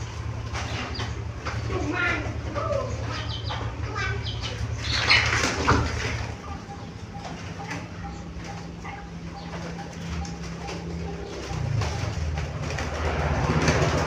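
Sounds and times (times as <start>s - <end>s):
birds chirping: 0.0s - 14.0s
dove cooing: 0.0s - 14.0s
wings fluttering: 0.0s - 14.0s.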